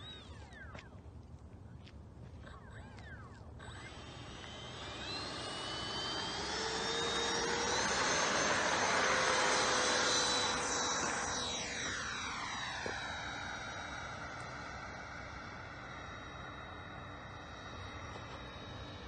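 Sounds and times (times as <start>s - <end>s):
electric ducted fan whine: 0.0s - 19.0s.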